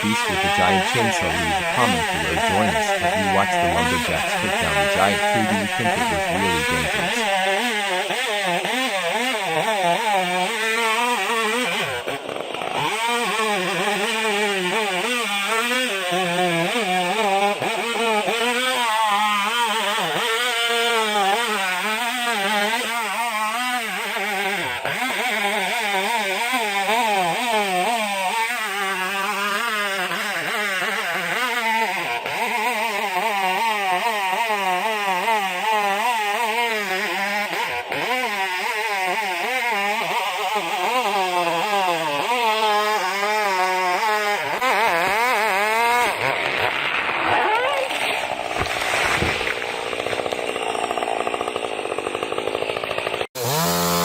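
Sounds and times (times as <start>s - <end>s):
chainsaw cutting: 0.0s - 54.0s.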